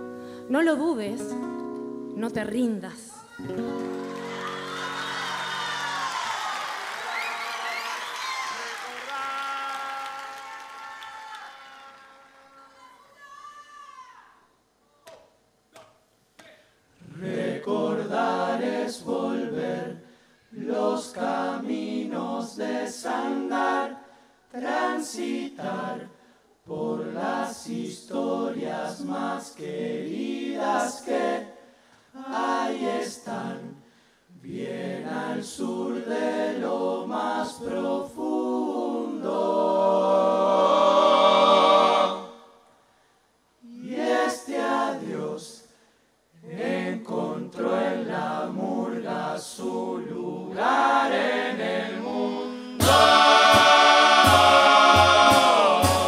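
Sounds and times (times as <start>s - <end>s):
chorus singing a cappella: 4.2s - 13.0s, 17.0s - 42.7s, 43.6s - 56.0s.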